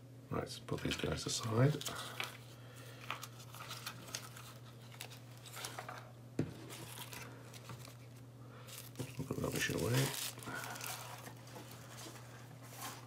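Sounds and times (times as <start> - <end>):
plastic wrap and paper crinkling: 1.3 - 13.0.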